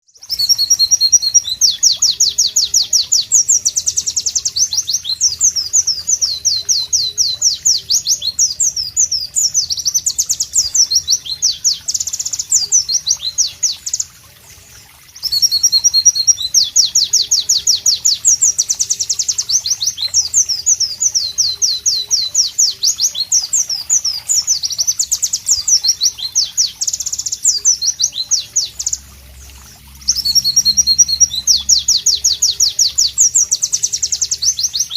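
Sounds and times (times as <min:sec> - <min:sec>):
bird twittering song: 0:00.0 - 0:34.9.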